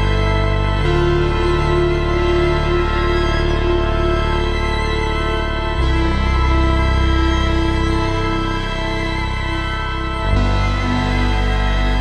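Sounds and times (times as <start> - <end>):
deep bass: 0.0 - 12.0
film score sustained chords: 0.0 - 12.0.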